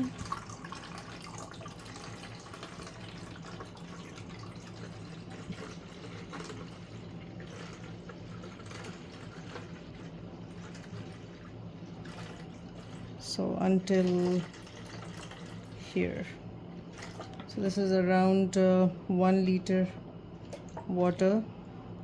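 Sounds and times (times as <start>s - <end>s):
water running into a tank: 0.0s - 21.5s
steady low hum: 0.0s - 22.0s.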